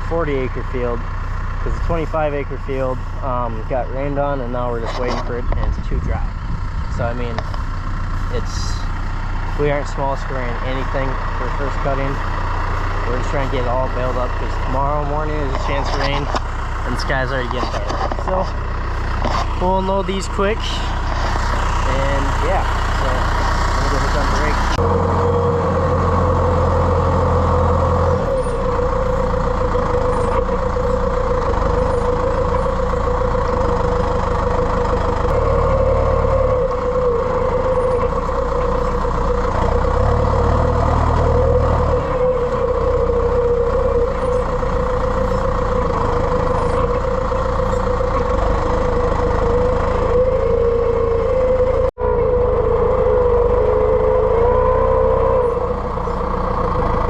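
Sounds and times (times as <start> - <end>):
tractor engine running under load: 0.0 - 57.0
wavering whine: 1.6 - 57.0.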